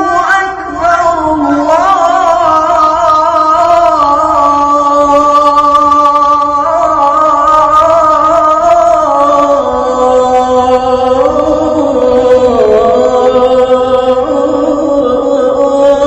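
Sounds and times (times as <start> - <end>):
man chanting call to prayer: 0.0 - 16.0.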